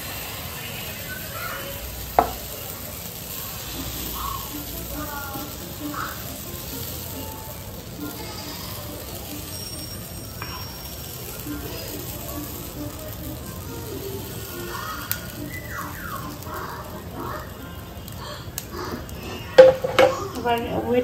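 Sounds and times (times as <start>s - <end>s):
batter sizzling in frying pan: 0.0s - 21.0s.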